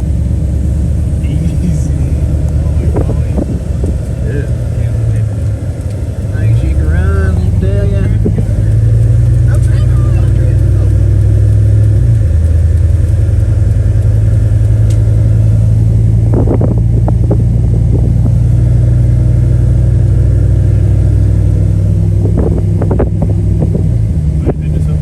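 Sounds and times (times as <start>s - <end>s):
engine and road drone: 0.0s - 25.0s.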